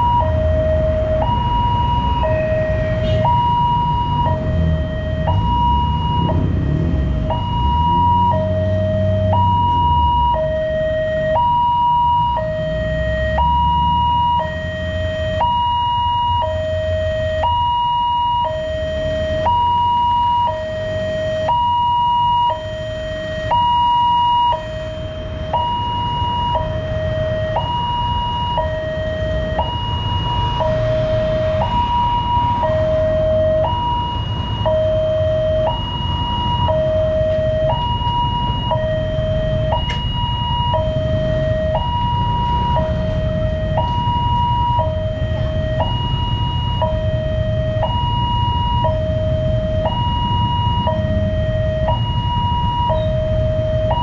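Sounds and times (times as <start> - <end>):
two-tone crossing alarm: 0.0 - 54.0.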